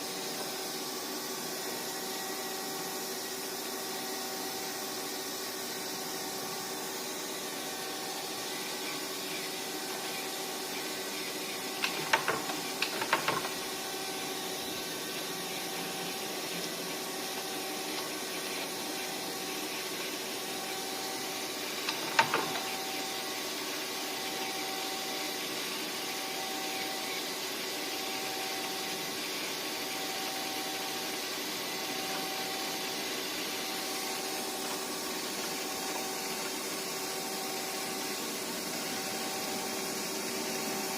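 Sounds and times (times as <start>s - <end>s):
lathe machine hum: 0.0s - 40.9s.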